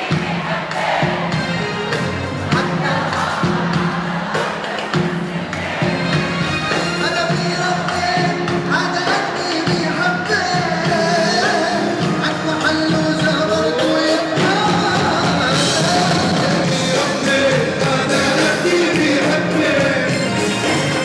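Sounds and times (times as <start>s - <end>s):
band accompaniment: 0.0s - 21.0s.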